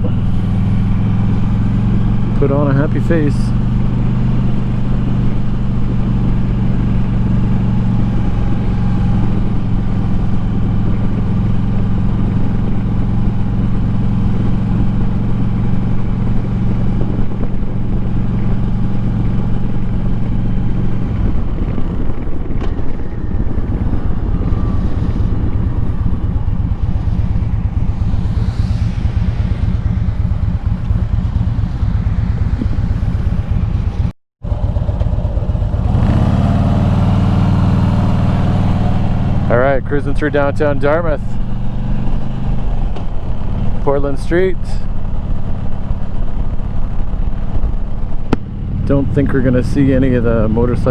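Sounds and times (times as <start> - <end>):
motorcycle engine running: 0.0 - 50.9
wind noise: 0.0 - 50.9.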